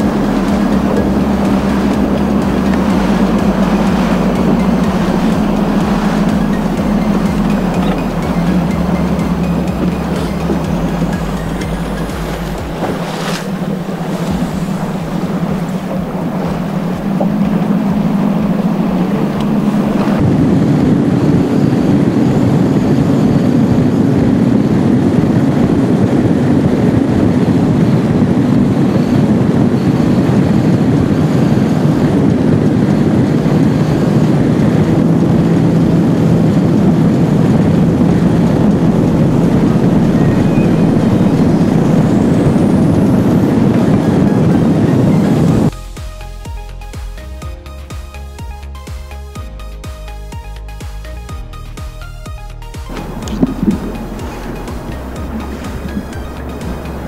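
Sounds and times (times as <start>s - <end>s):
water rushing past hull: 0.0s - 46.0s, 52.8s - 57.0s
wind on microphone: 0.0s - 46.6s, 51.0s - 57.0s
outboard engine running at speed: 0.0s - 57.0s.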